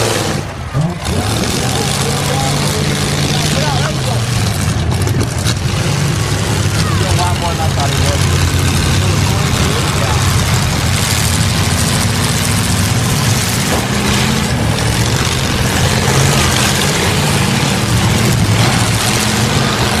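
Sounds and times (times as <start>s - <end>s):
loud car engines running: 0.0s - 20.0s.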